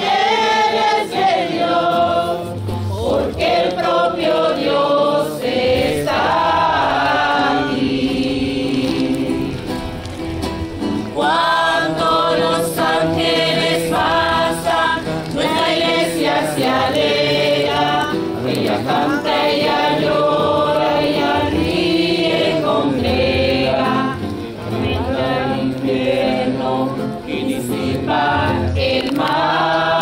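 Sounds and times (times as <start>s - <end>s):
choir singing: 0.0s - 9.8s, 11.0s - 30.0s.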